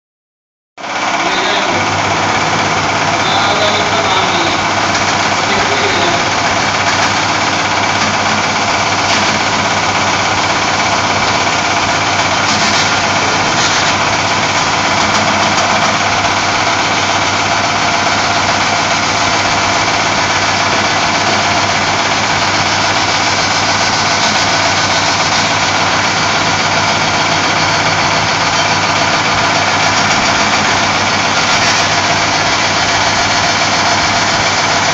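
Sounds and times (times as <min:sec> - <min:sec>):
welding machine hum with sparks: 0:00.9 - 0:34.9.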